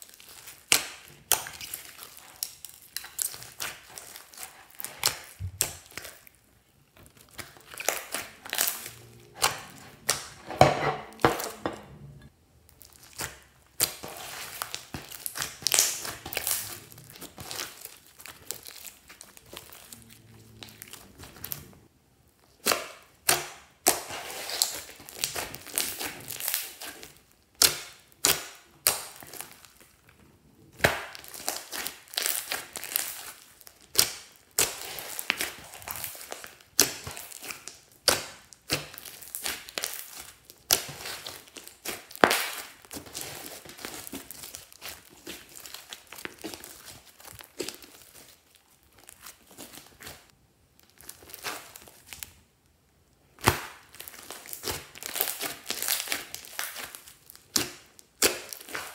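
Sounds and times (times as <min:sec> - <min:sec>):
slime wet crackling: 0:00.0 - 0:10.4, 0:12.7 - 0:58.9.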